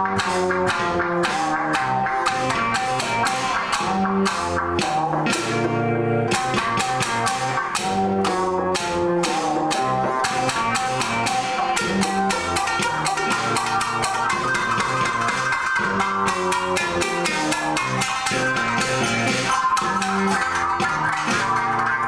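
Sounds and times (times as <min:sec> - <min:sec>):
percussive hits: 0:00.0 - 0:05.7, 0:06.3 - 0:22.0
electric shamisen plucked notes: 0:00.0 - 0:22.0.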